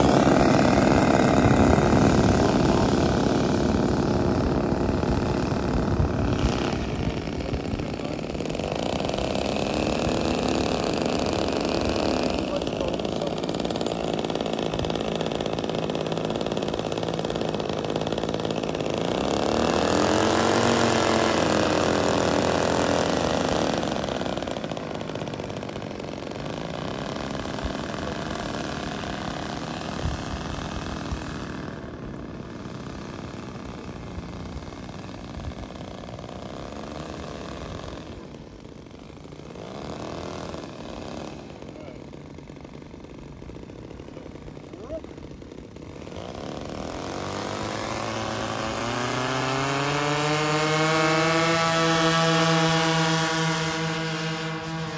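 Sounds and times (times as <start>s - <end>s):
model plane engines revving: 0.0s - 54.9s.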